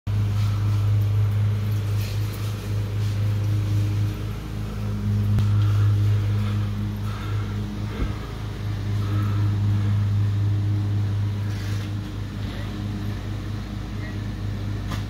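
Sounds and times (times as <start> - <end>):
low mechanical motor hum: 0.1 - 15.0.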